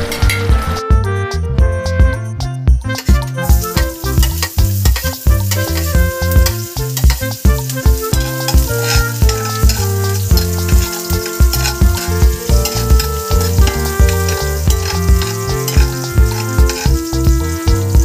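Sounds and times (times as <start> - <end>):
background music with steady beat: 0.0 - 18.0
garlic sizzling in hot oil: 3.0 - 18.0
metal spoon stirring in pan: 3.0 - 18.0.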